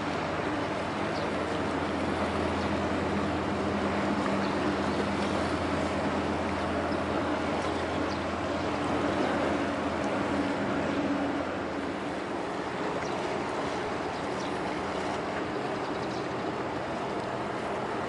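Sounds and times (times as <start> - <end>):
ferry engines droning: 0.0 - 18.0
water wash: 0.0 - 18.0
wind: 0.0 - 18.0.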